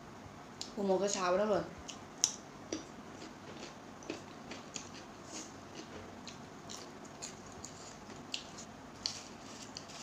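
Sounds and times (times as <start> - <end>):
person chewing cucumber: 1.8 - 10.0.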